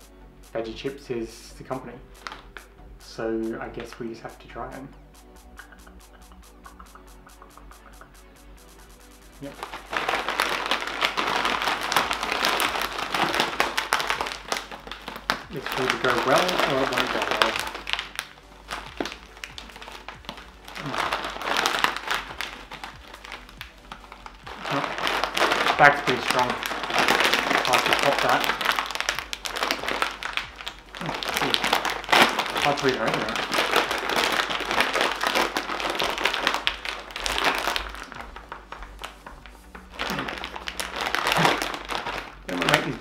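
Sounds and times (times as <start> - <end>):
plastic crisp packet crinkling: 1.6 - 43.0.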